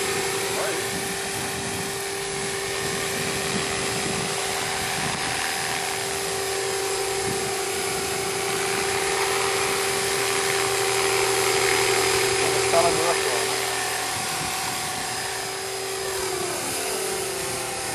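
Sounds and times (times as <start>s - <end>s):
rc helicopter motor and rotor whine: 0.0s - 17.9s.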